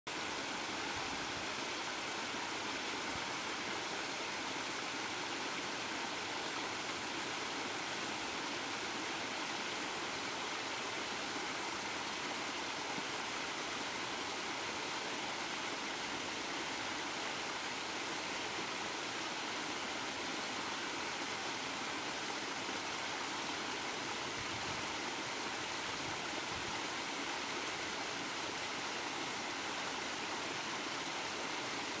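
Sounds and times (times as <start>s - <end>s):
small waterfall rushing: 0.1s - 32.0s.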